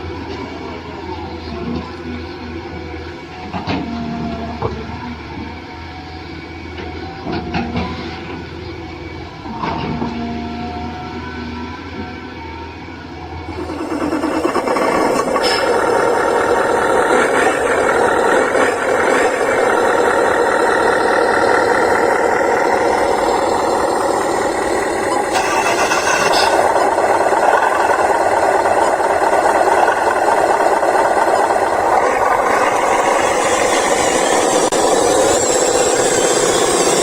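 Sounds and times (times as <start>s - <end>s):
small motors whining: 0.0s - 37.0s.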